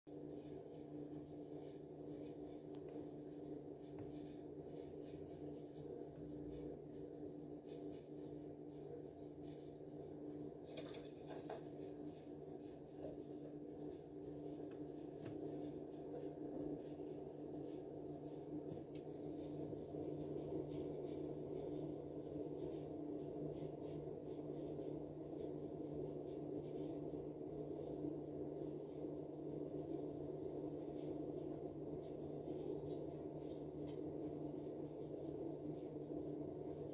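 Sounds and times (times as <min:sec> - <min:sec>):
low room hum: 0:00.1 - 0:36.9.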